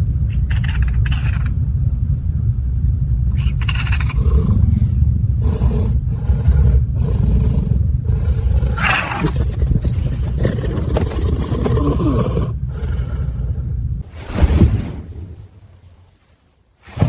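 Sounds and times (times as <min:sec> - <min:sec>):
steady low rumble: 0:00.0 - 0:17.0
caracal hissing and growling: 0:03.3 - 0:17.0.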